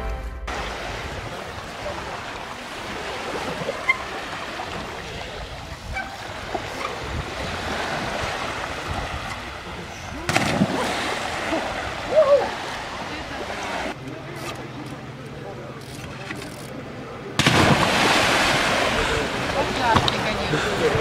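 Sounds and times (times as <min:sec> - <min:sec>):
sea waves washing on shore: 0:00.5 - 0:14.0, 0:17.4 - 0:21.0.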